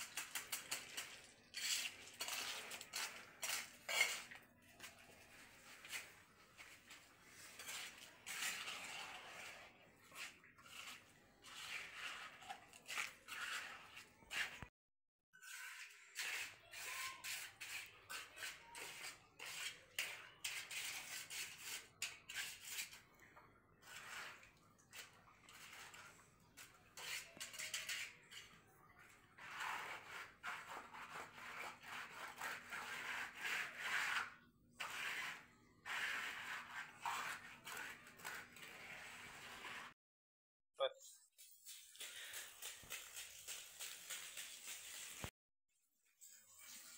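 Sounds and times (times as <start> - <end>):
trowel scraping wet mortar: 0.0 - 14.7, 15.4 - 40.0, 41.4 - 45.3, 46.2 - 46.9.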